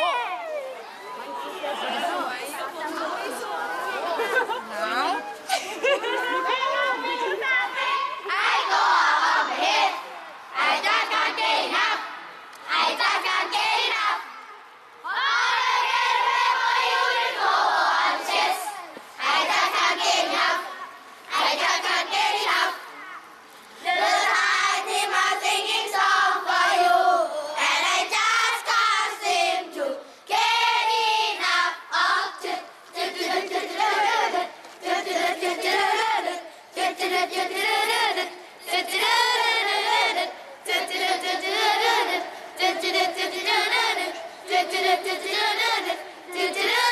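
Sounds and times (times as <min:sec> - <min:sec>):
children singing and chanting: 0:05.4 - 0:46.9.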